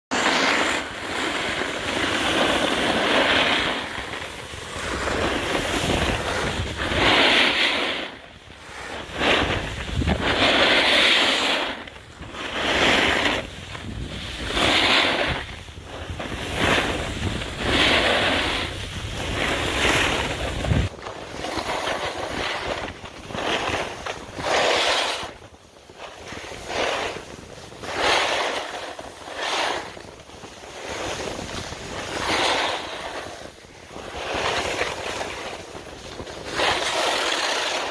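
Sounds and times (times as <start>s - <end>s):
ski edges scraping on packed snow: 0.1s - 37.9s
wind on microphone: 0.4s - 37.9s.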